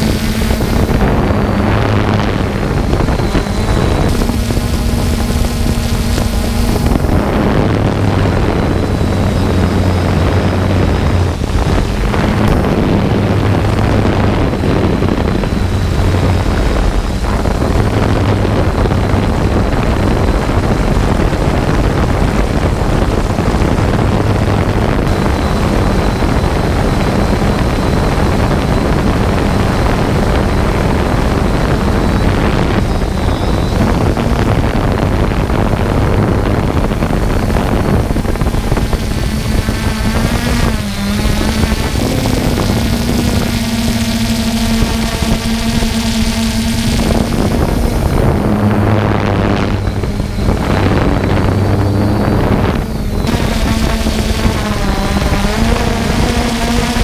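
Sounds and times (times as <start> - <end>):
drone propellers buzzing: 0.0 - 57.0
wind noise on microphone: 0.0 - 57.0.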